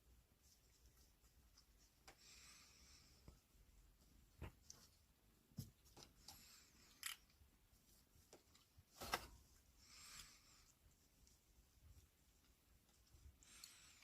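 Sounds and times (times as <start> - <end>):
soft rustle: 0.0 - 14.0.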